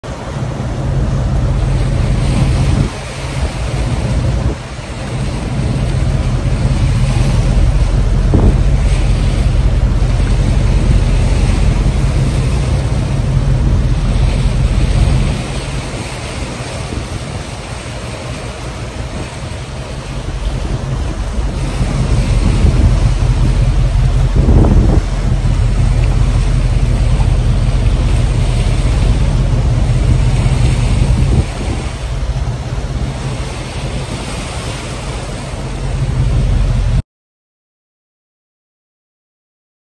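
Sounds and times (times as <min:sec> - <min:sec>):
boat engine running: 0:00.0 - 0:37.0
waves washing along hull: 0:00.0 - 0:37.0
wind buffeting microphone: 0:00.1 - 0:37.0.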